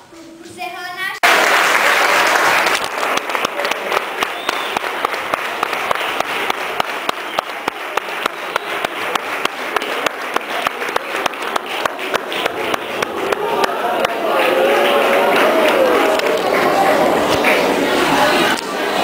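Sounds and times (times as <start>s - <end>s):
audience applauding: 1.2s - 19.0s.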